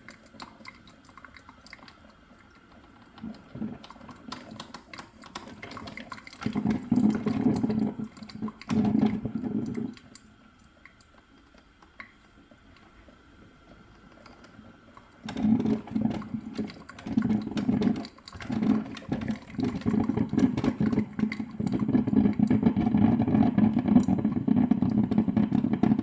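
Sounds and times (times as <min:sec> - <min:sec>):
coffee maker gurgling and sputtering: 0:00.0 - 0:26.0.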